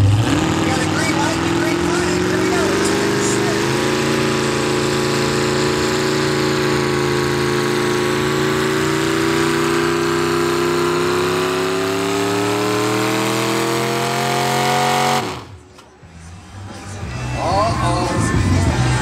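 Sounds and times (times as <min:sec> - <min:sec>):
truck engine running hard: 0:00.0 - 0:19.0.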